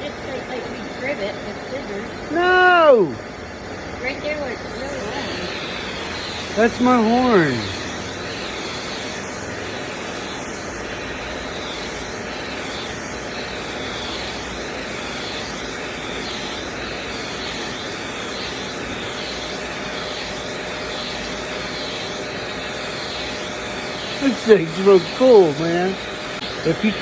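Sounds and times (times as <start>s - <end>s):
vacuum hair clipper running: 0.0s - 27.0s.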